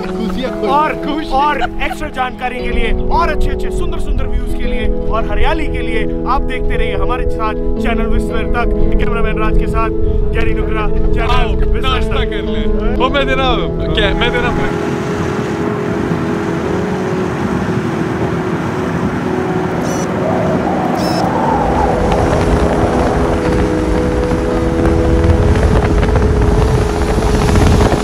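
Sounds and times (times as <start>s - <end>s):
background music tones: 0.0s - 28.0s
road and wind rumble: 0.0s - 28.0s.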